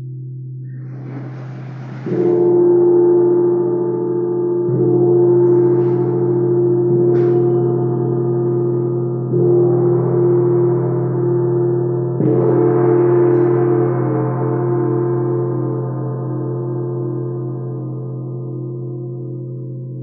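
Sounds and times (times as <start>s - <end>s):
struck metal gong ringing: 0.8s - 18.4s.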